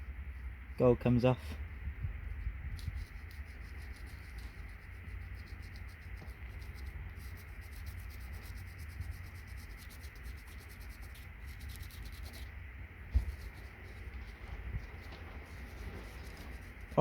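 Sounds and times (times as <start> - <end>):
low rumble: 1.4 - 17.0.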